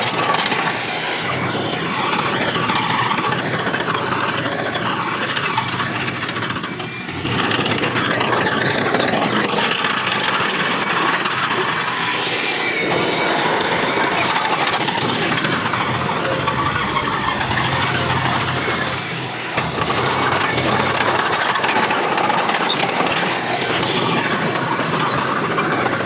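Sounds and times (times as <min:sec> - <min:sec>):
dense mechanical rattle: 0:00.0 - 0:26.0
heavy machinery engine running: 0:00.0 - 0:26.0.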